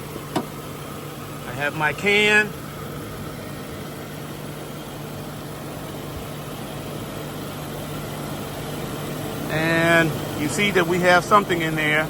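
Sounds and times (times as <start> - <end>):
air conditioning hiss: 0.0 - 12.0
car engine idling hum: 0.0 - 12.0.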